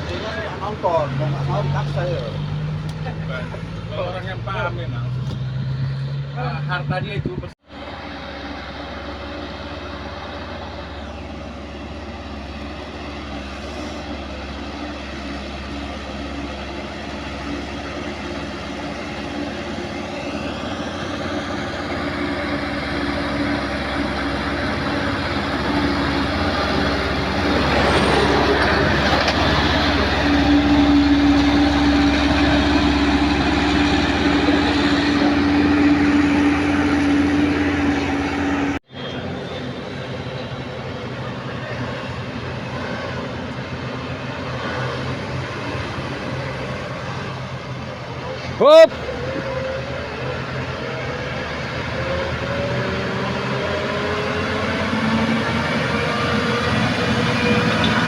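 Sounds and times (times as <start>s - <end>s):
truck engine labouring uphill: 0.0s - 58.0s.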